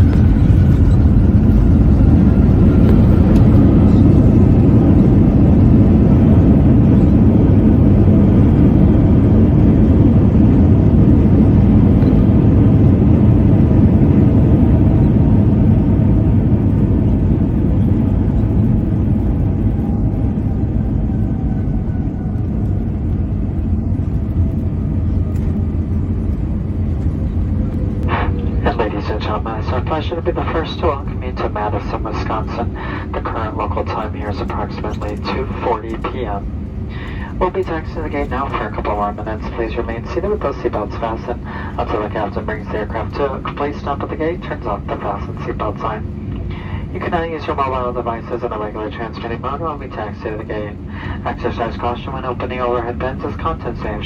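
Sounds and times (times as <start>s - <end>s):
jet engines spooling down: 0.0s - 54.0s.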